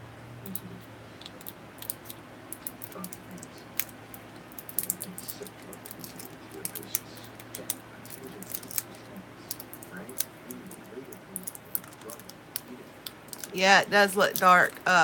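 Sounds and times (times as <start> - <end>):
packaging clicks and crinkles: 0.5 - 14.8.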